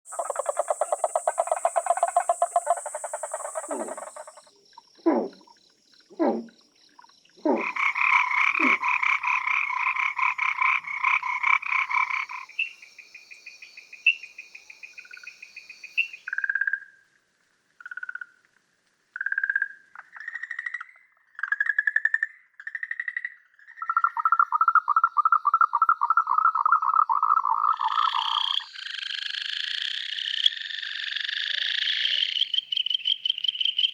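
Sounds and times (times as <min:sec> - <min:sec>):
frogs calling: 0:00.1 - 0:17.0, 0:21.4 - 0:33.9.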